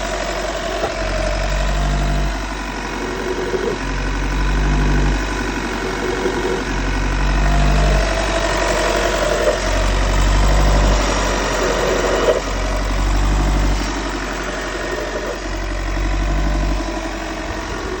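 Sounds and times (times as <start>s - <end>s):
higher hum: 0.0s - 18.0s
van low drone: 0.0s - 18.0s.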